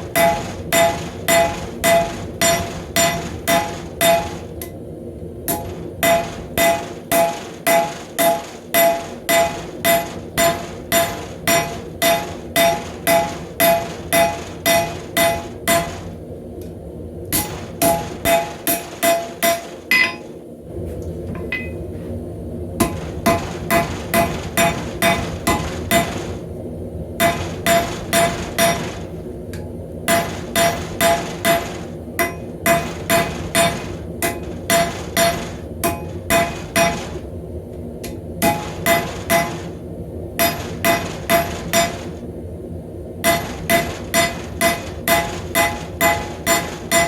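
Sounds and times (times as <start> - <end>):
steady low hum: 0.0 - 47.0
hammer striking metal on anvil: 0.1 - 4.8, 5.5 - 16.0, 17.3 - 20.3, 21.4 - 21.8, 22.8 - 26.2, 27.2 - 28.9, 30.1 - 37.2, 38.0 - 39.7, 40.4 - 42.1, 43.2 - 47.0.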